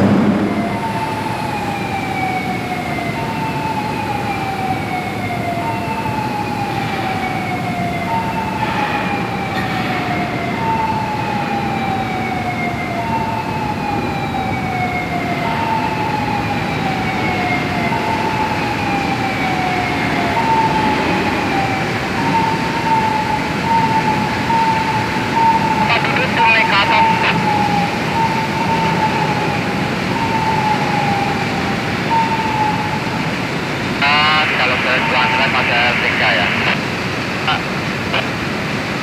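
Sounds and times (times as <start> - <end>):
crane warning siren wailing: 0.0 - 39.0.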